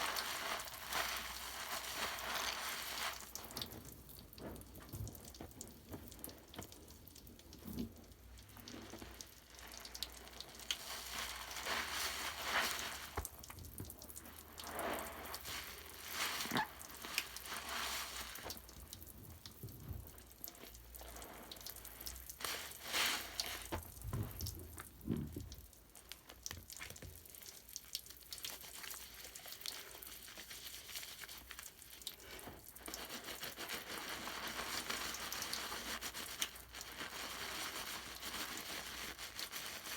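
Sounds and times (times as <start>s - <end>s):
bubble foam fizzing and crackling: 0.0s - 39.9s
foam squishes: 0.0s - 39.9s.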